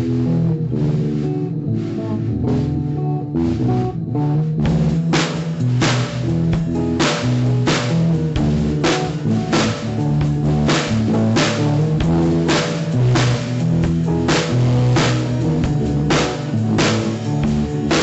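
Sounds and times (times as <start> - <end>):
drum kit beat: 0.0 - 18.0
electric guitar and bass riff: 0.0 - 18.0.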